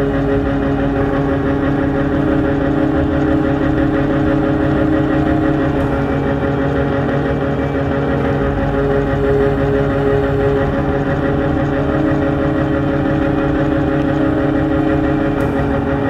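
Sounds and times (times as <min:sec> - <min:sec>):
combine harvester machine hum: 0:00.0 - 0:16.0
whining auger tones: 0:00.0 - 0:16.0.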